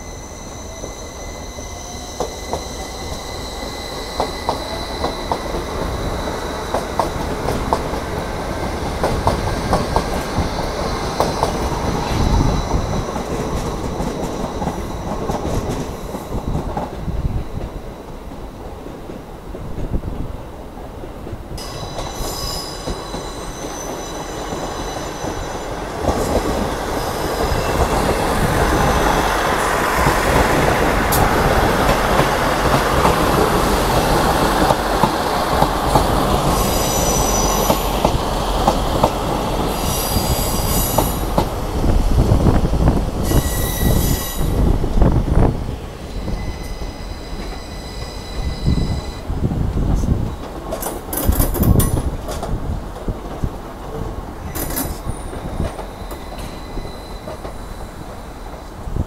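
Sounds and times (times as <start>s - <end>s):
train wheels squealing: 0.0s - 7.8s, 9.3s - 18.3s, 21.6s - 41.8s, 42.4s - 49.3s, 54.4s - 58.9s
train rumble: 0.0s - 59.0s.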